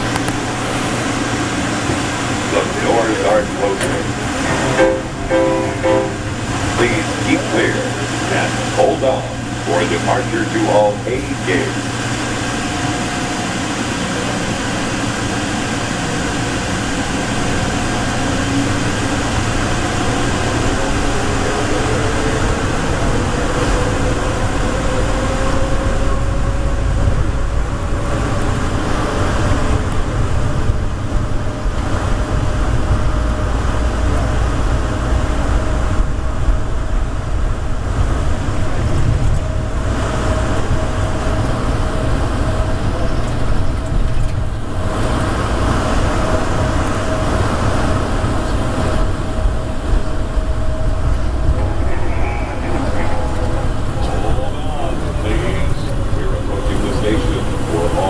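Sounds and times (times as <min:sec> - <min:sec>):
train rumble with motor whine: 0:00.0 - 0:58.0.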